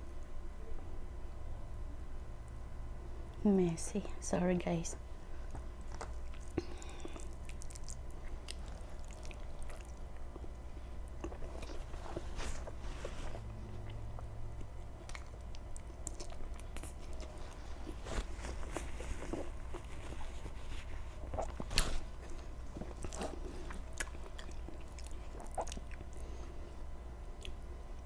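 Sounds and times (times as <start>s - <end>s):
faint low hum: 0.0s - 28.0s
person chewing food: 5.3s - 28.0s.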